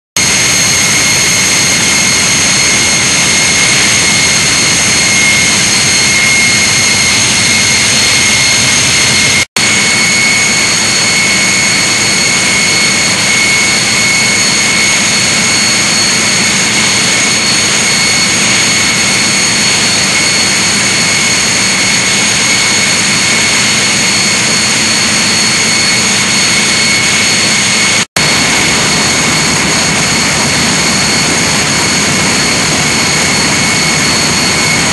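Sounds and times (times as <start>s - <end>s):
generator engine running: 0.2s - 34.9s
steady high whine: 0.2s - 34.9s.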